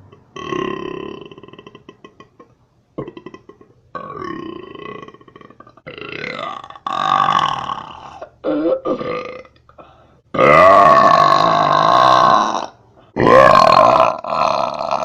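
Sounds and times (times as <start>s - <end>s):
person burping loudly: 0.1s - 15.0s.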